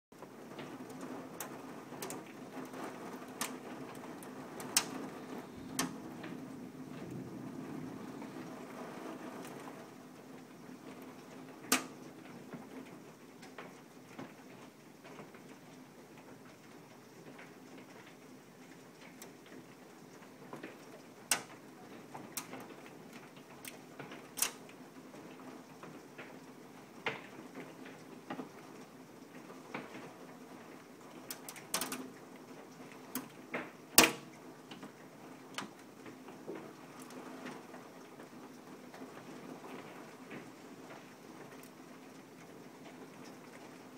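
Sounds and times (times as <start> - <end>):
faint steady hiss: 0.2 - 43.9
hailstones tapping on a window: 0.2 - 43.9.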